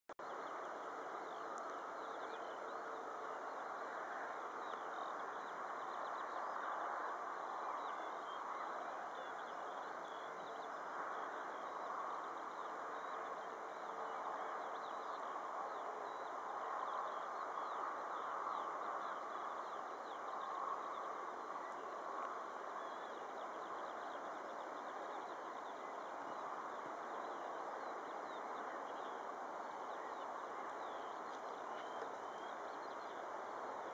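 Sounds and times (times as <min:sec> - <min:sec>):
small birds chirping faintly: 0:00.2 - 0:33.9
steady outdoor hiss: 0:00.2 - 0:33.9.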